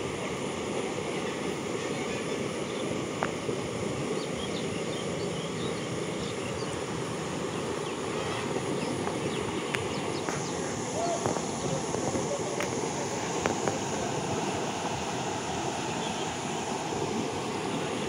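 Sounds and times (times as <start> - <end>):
river water rushing: 0.0 - 18.0
wind on microphone: 2.3 - 18.0.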